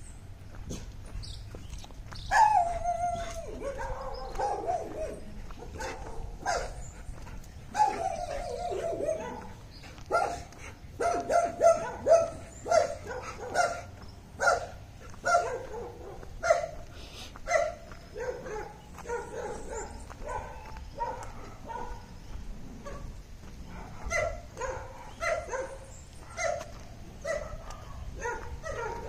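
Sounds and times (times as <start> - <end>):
dog barking: 2.3 - 6.9, 7.7 - 22.2, 22.8 - 29.0.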